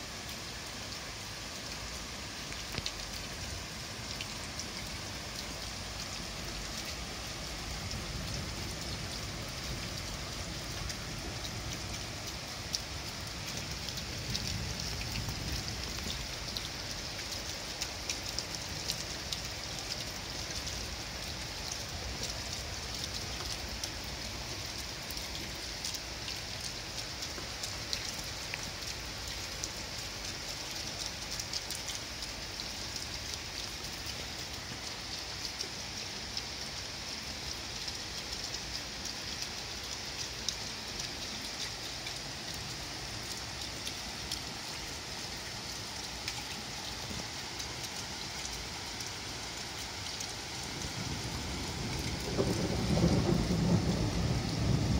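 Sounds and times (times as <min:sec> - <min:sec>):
rain on a roof: 0:00.0 - 0:54.9.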